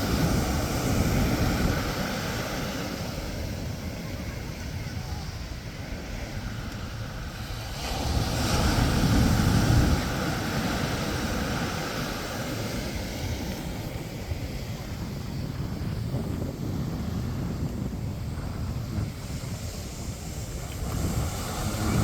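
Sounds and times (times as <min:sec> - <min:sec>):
waves breaking on sand: 0:00.0 - 0:22.0
wind on microphone: 0:00.0 - 0:22.0.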